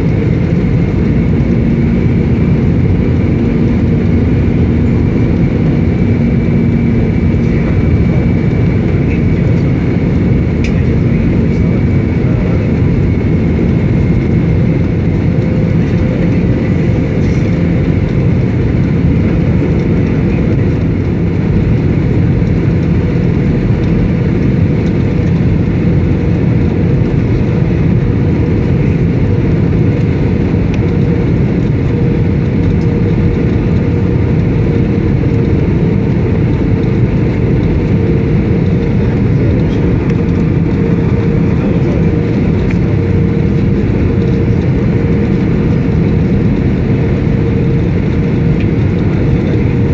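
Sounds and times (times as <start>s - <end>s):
jet engine rumble: 0.0s - 49.9s.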